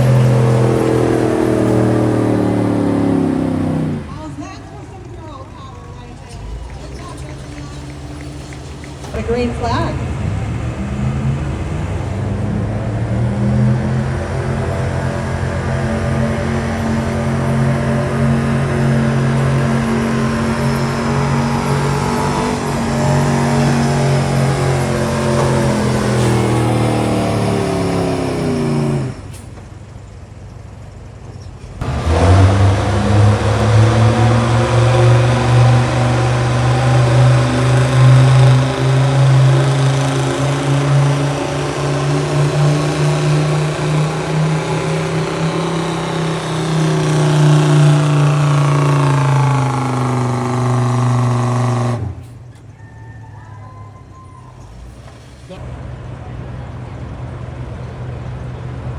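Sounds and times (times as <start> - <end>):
truck engine revving under load: 0.0 - 58.9.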